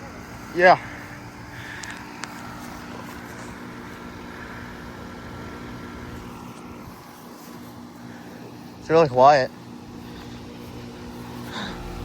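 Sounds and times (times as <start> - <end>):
compressor hum: 0.0 - 12.0
condenser fan: 0.0 - 12.0.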